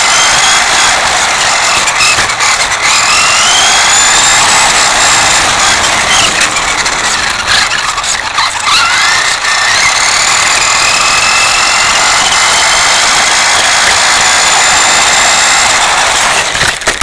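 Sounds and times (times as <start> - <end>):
toy car motor whining: 0.0 - 17.0
wheels hissing on concrete: 0.0 - 17.0.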